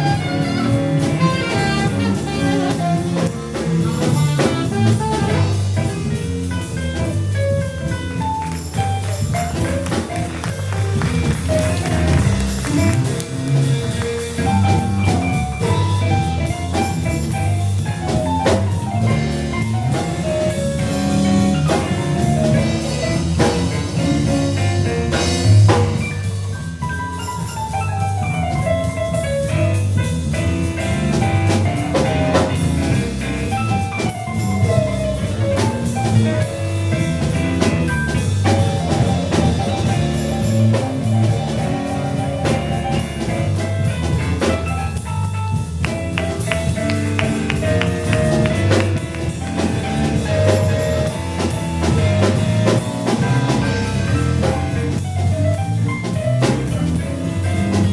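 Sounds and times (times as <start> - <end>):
drum kit: 0.0 - 57.9
jazz band playing: 0.0 - 57.9.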